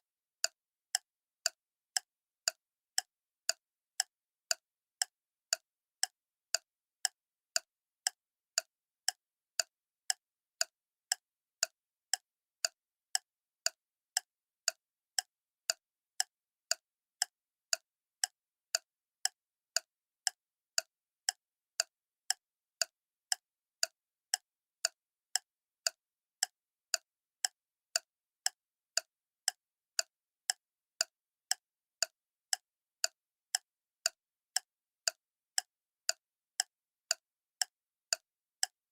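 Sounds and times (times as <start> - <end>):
clock ticking: 0.0 - 38.8.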